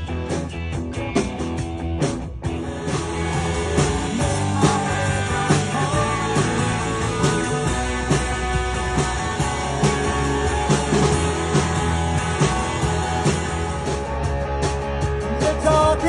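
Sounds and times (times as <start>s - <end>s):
rock band instrumental: 0.0s - 16.0s.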